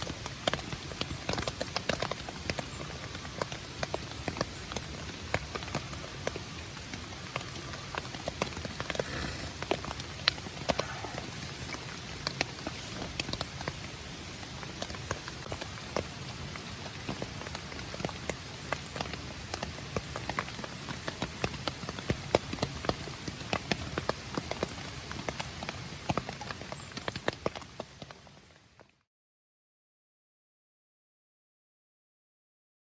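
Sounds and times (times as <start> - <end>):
campfire crackling: 0.0 - 27.8.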